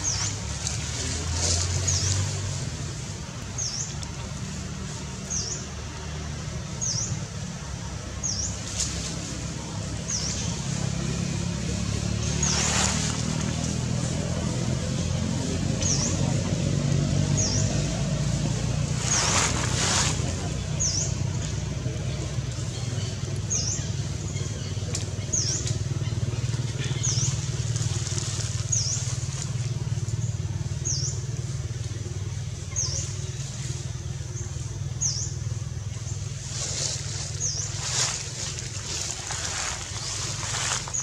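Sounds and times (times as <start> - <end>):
distant traffic rumble: 0.0 - 41.0.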